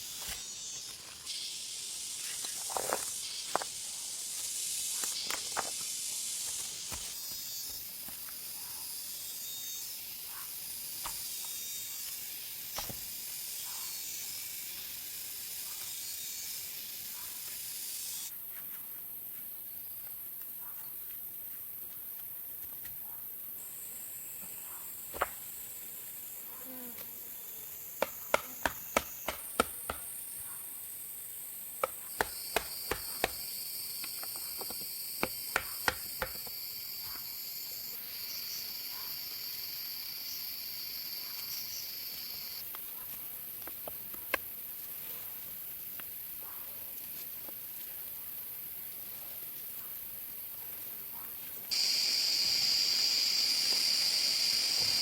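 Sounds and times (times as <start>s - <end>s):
insect chorus hissing: 0.0s - 55.0s.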